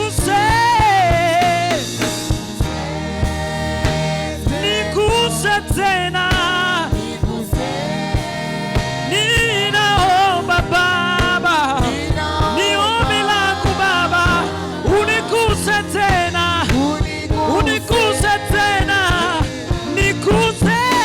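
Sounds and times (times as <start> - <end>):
gospel band music: 0.0 - 21.0
steady drum beat: 0.0 - 21.0.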